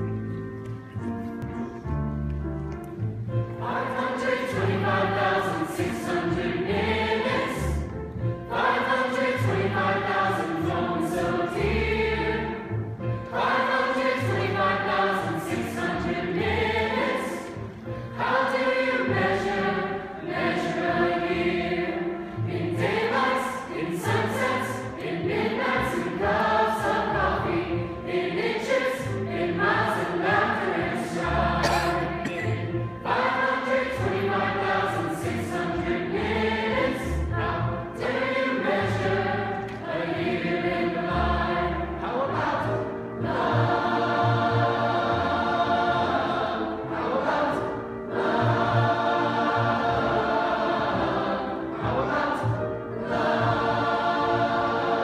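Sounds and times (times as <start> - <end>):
orchestral accompaniment: 0.0 - 55.0
mixed choir singing: 3.5 - 55.0.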